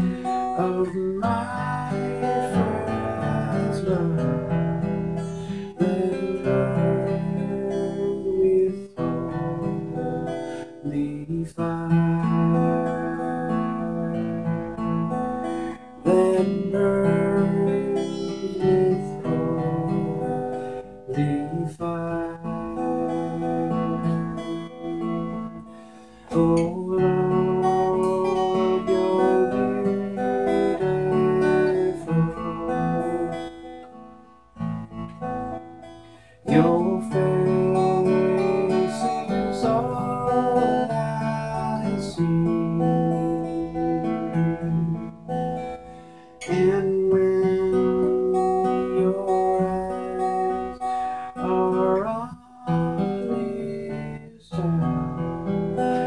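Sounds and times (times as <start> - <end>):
man singing: 0.0 - 34.0, 36.3 - 56.0
acoustic guitar strumming: 0.0 - 56.0.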